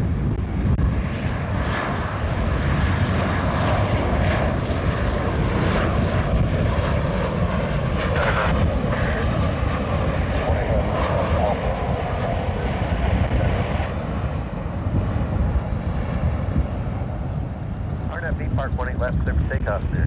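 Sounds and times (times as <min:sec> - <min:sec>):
faint engine whine: 0:00.0 - 0:20.0
jet engines rumbling: 0:00.0 - 0:20.0.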